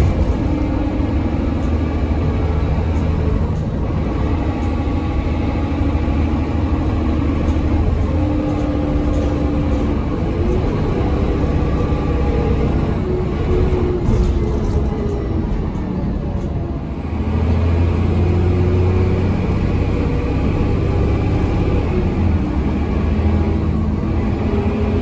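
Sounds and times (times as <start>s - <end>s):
bus engine drone: 0.0s - 25.0s.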